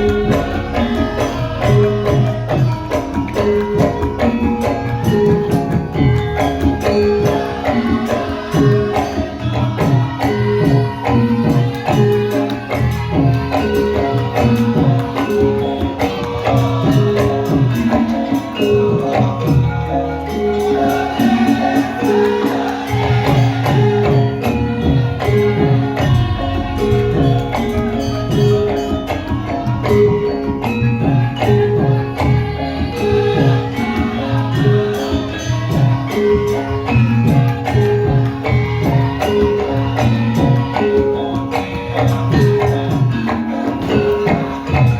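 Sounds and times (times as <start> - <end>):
steady drumming: 0.0 - 19.8, 20.6 - 44.9
struck pitched percussion melody: 0.0 - 44.9.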